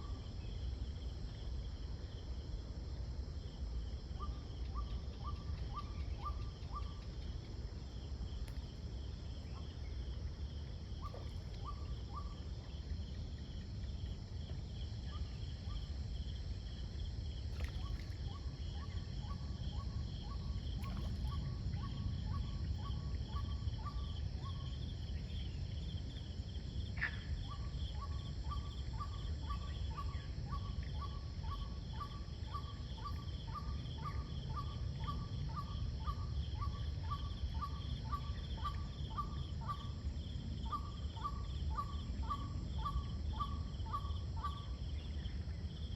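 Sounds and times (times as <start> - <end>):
continuous low rumble: 0.0 - 45.9
crickets trilling: 0.0 - 45.9.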